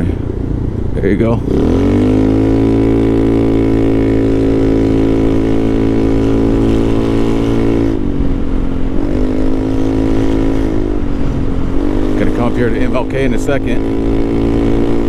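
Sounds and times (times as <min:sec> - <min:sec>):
small motorcycle engine running: 0:00.4 - 0:15.0.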